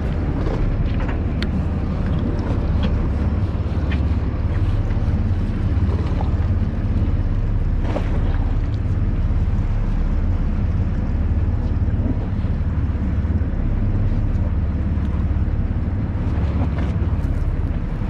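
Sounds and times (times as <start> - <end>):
boat engine droning: 0.0 - 18.0
wind buffeting microphone: 0.0 - 18.0.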